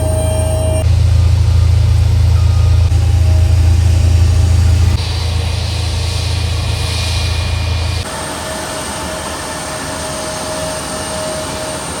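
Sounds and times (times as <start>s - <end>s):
heavy engine rumble: 0.0s - 10.4s
jet engine whine and roar: 0.0s - 12.0s.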